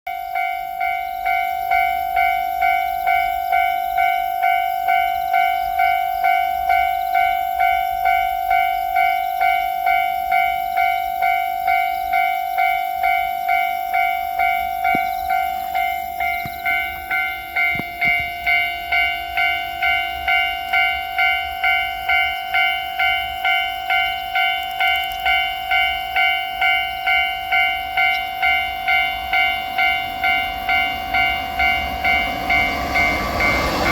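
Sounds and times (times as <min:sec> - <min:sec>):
level-crossing alarm bell: 0:00.1 - 0:33.9.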